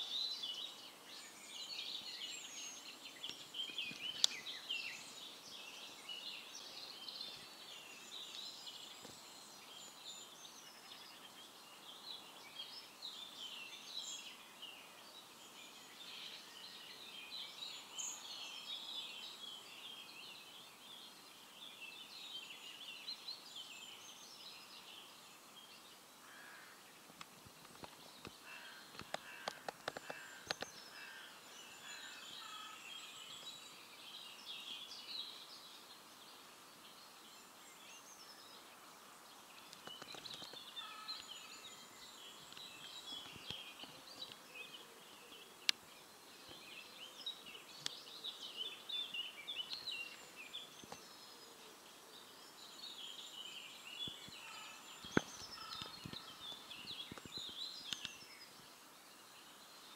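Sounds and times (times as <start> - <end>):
faint background hiss: 0.0 - 59.9
songbirds chirping: 0.0 - 59.9.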